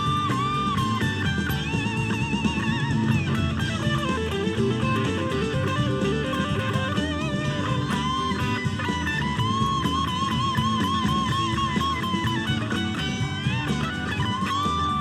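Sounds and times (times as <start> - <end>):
electric guitar lead: 0.0 - 15.0
rock backing track: 0.0 - 15.0.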